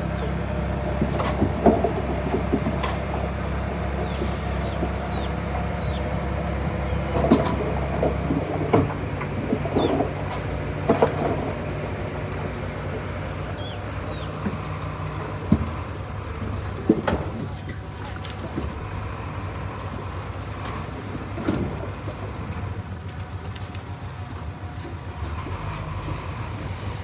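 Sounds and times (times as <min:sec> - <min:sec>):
heavy machinery diesel engine running: 0:00.0 - 0:27.0.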